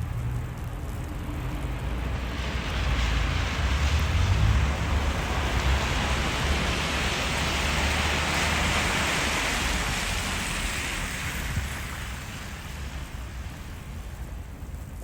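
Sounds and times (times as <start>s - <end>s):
tyre hiss on snowy road: 2.0s - 14.9s.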